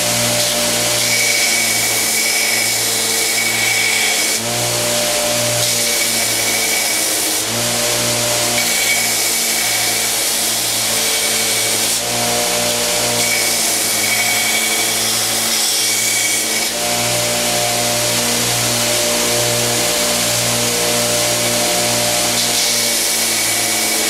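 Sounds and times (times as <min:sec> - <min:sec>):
belt grinder running: 0:00.0 - 0:24.0.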